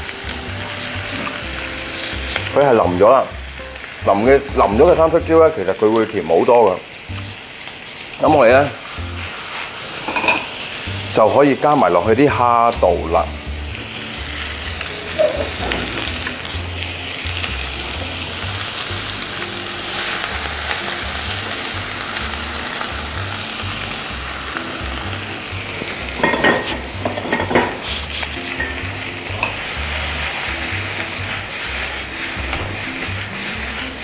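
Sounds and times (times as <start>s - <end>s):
prawns sizzling in a pan: 0.0s - 34.0s.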